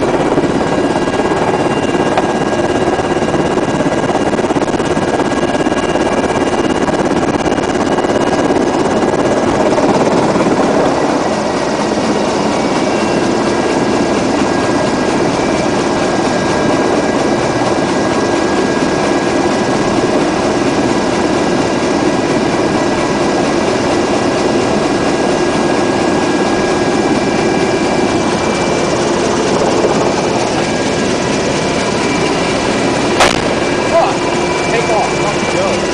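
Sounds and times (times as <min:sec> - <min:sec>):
helicopter rotors and engines: 0:00.0 - 0:35.9.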